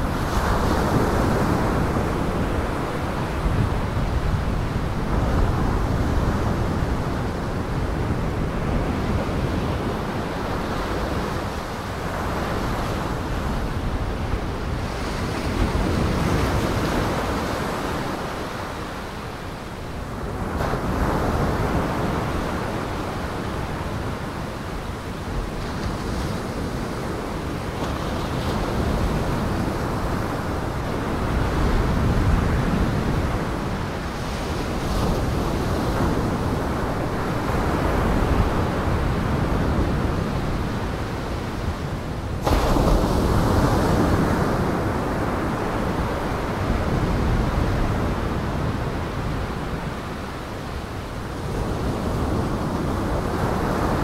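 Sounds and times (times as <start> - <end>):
strong gale wind: 0.0 - 54.0
wind buffeting microphone: 0.0 - 54.0.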